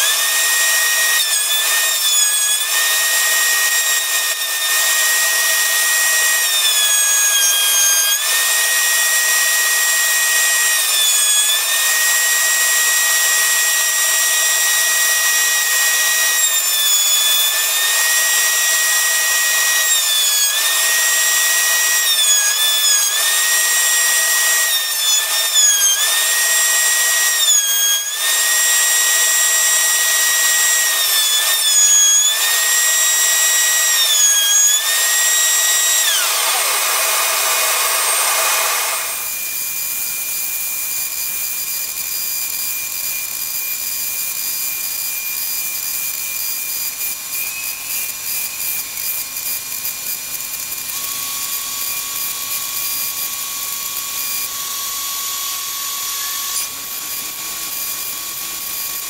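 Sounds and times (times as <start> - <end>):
router whining: 0.0 - 59.0.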